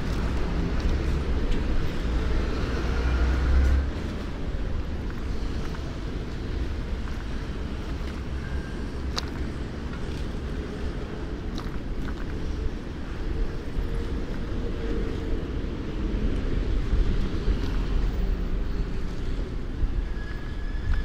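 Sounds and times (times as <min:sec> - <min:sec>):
bicycle road riding rumble: 0:00.0 - 0:21.0.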